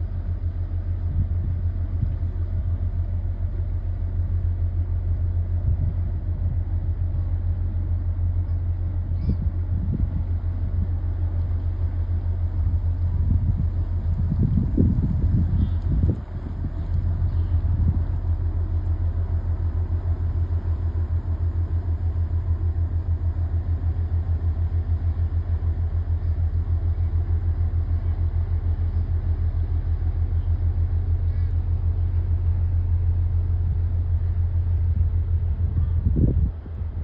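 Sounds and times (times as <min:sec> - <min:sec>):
engine running with low rumble: 0:00.0 - 0:37.0.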